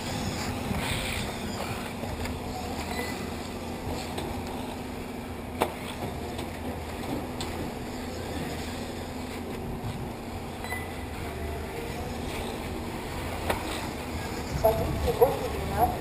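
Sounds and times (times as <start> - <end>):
rc cars rumbling and hissing: 0.0 - 16.0.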